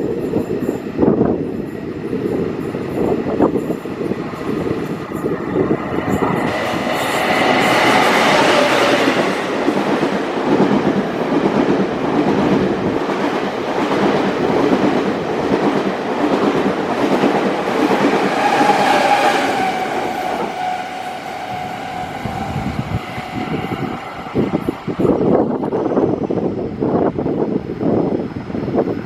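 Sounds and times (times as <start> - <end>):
train wheels clacking: 0.0 - 26.1.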